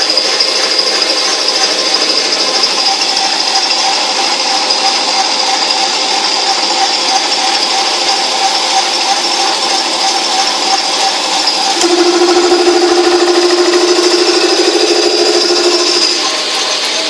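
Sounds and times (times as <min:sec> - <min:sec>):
metal lathe whining: 0:00.0 - 0:17.0.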